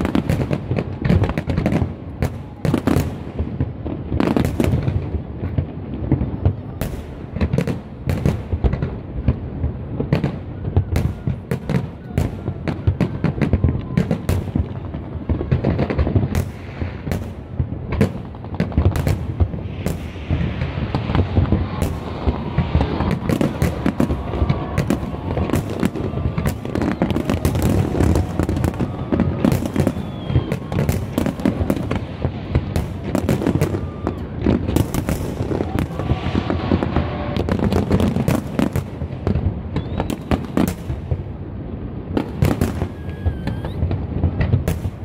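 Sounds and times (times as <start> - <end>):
fireworks banging and crackling: 0.0 - 45.0.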